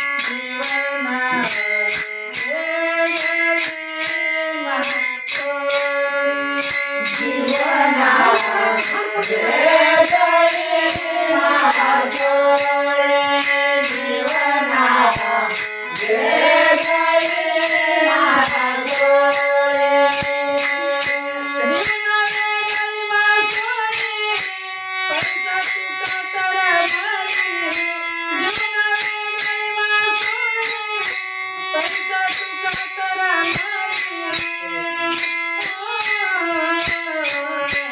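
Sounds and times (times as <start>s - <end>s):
woman singing devotional song: 0.0s - 24.3s, 25.2s - 30.6s, 31.7s - 35.1s
jingling hand percussion: 0.0s - 37.9s.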